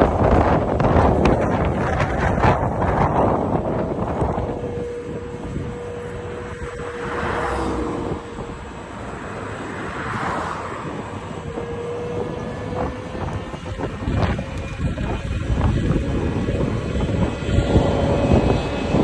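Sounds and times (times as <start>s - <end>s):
wind rumble: 0.0s - 19.0s.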